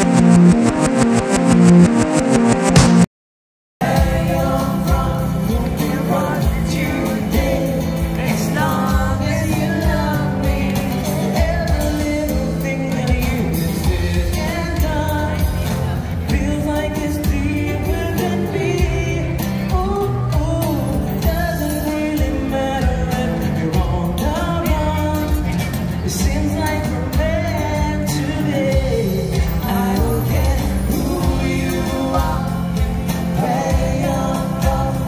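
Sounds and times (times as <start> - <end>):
keyboard: 0.0 - 3.1, 3.8 - 35.0
acoustic guitar: 3.8 - 35.0
drums: 3.8 - 35.0
two people singing: 3.8 - 35.0.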